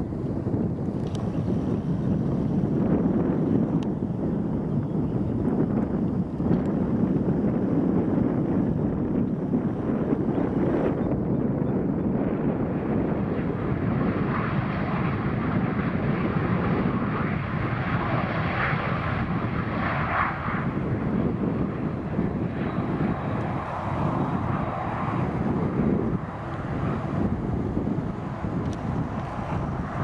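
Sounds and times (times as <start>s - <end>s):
airliner engines running: 0.0s - 30.0s
wind buffeting microphone: 0.0s - 30.0s.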